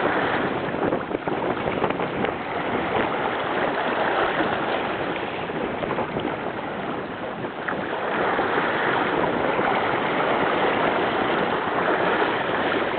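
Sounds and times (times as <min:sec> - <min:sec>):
water rushing along a hull: 0:00.0 - 0:12.9
wind noise: 0:00.0 - 0:12.9.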